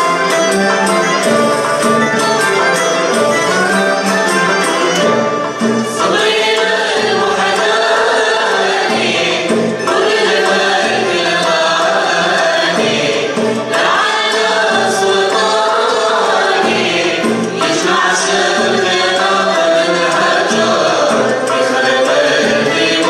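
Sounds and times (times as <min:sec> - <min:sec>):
group of singers singing: 0:00.0 - 0:23.0
ouds and violins playing: 0:00.0 - 0:23.0.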